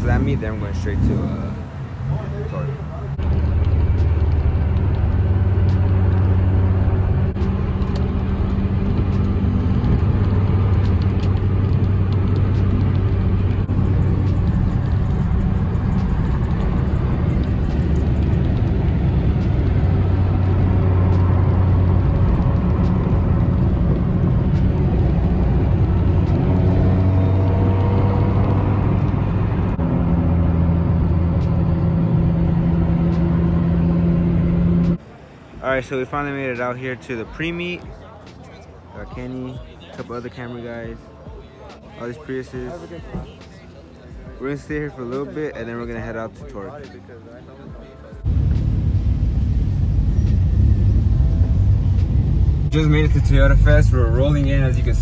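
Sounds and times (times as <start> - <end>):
car engine drone: 0.0 - 55.0
road noise: 0.0 - 55.0.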